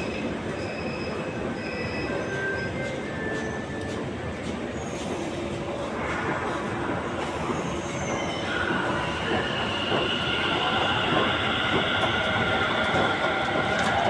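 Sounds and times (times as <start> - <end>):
train high whine: 0.0 - 14.0
train rumble: 0.0 - 14.0.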